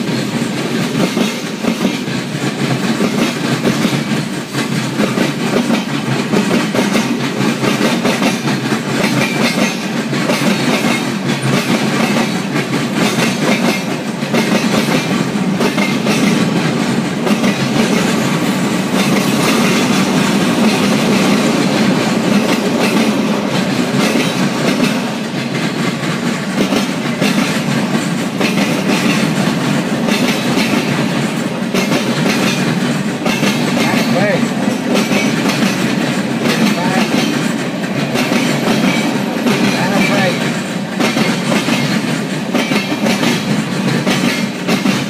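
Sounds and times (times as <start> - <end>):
train wheels rumbling on rail: 0.0 - 45.0
wheels clicking over rail joints: 0.0 - 45.0.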